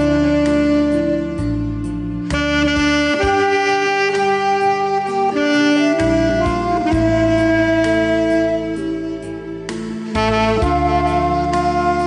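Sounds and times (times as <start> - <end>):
alto saxophone melody: 0.0 - 12.0
backing track with bass and beat: 0.0 - 12.0.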